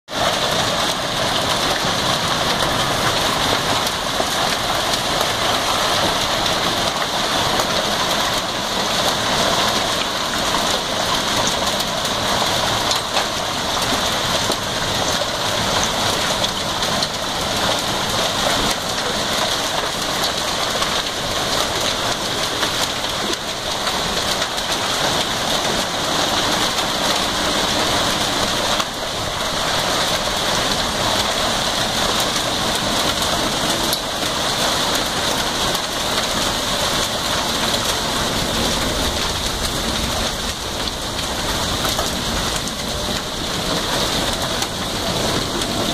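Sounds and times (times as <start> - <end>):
heavy hail pelting ground: 0.1 - 45.9.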